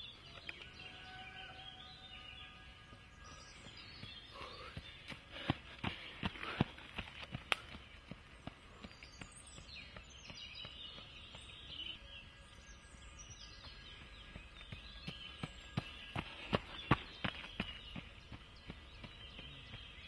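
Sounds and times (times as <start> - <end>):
birds chirping: 0.0 - 20.0
running footsteps on dirt trail: 1.6 - 20.0.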